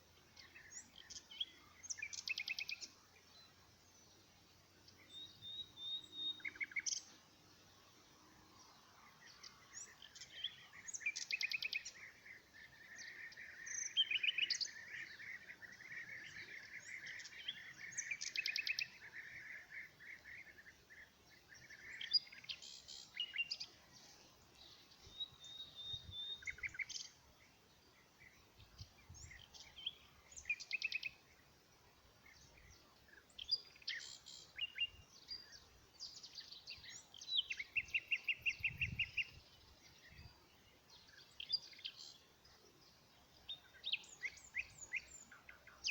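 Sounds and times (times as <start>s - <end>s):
birds chirping and singing: 0.1s - 8.0s, 8.6s - 45.9s.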